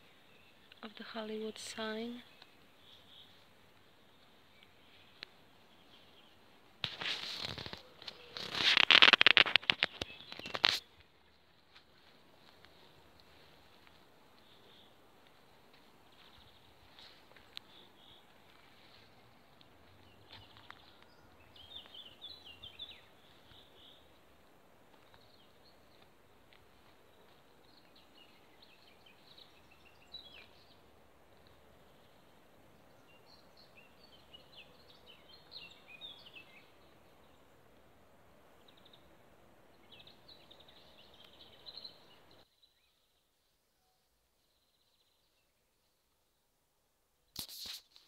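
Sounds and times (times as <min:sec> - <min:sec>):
small birds chirping: 0:00.0 - 0:11.4, 0:14.3 - 0:37.7, 0:38.5 - 0:43.4
faint background hiss: 0:00.0 - 0:48.0.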